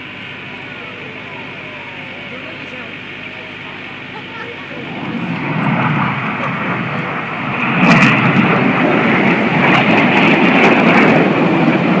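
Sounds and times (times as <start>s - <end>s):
jets flying over: 0.0s - 12.0s.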